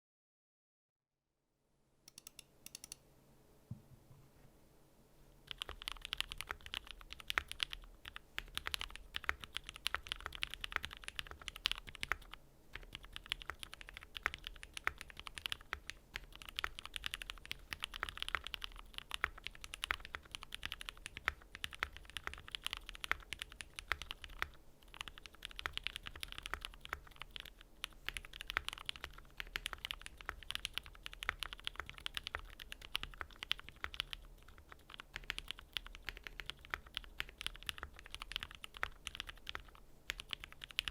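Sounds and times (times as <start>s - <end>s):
mechanical keyboard typing: 2.1s - 3.0s, 5.5s - 40.9s.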